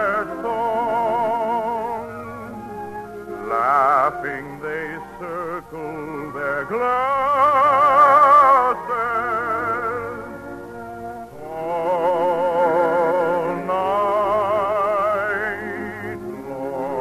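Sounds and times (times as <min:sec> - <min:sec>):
operatic singing: 0:00.0 - 0:17.0
orchestral accompaniment: 0:00.0 - 0:17.0.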